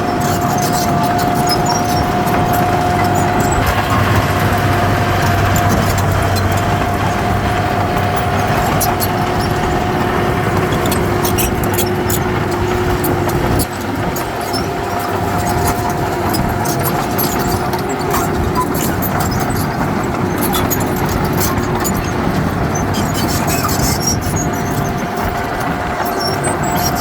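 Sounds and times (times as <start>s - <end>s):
high steady whine: 0.0s - 26.9s
diesel engine running: 0.0s - 27.0s
sharp clicks and clanks: 0.0s - 27.0s.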